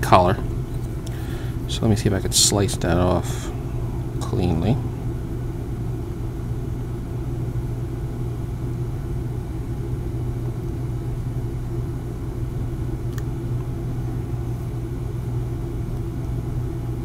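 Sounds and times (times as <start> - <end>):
heating system rumbling hum: 0.0 - 17.0.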